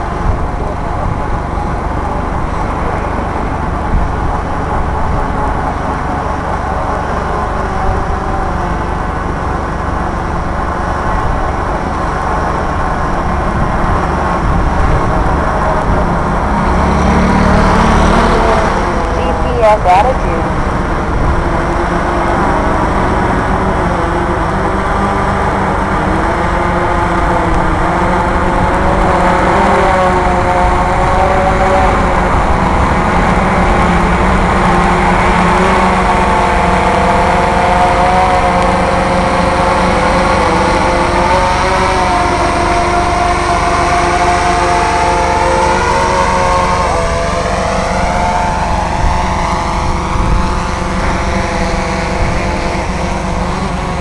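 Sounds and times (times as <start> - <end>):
drone propellers humming: 0.0 - 54.0.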